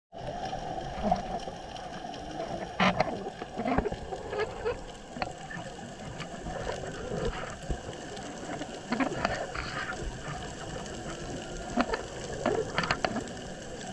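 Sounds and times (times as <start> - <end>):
sharp underwater clicks: 1.3 - 13.9.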